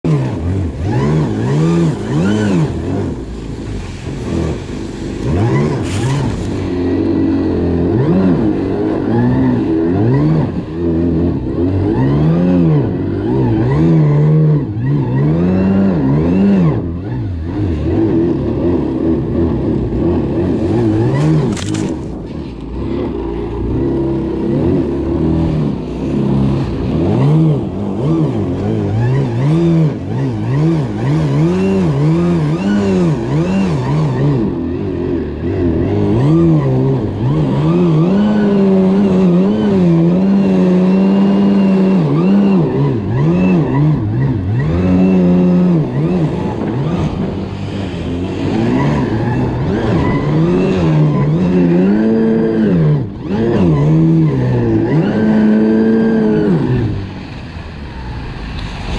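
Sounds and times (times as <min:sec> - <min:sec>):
track rushing in snow: 0:00.0 - 0:58.9.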